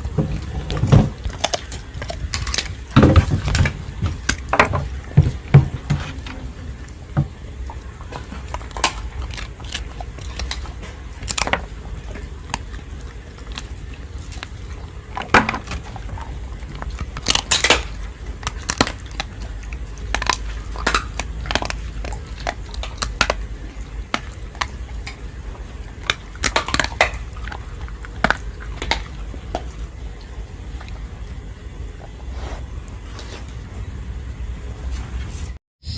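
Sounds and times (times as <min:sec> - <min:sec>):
dog crunching food: 0:00.0 - 0:33.7.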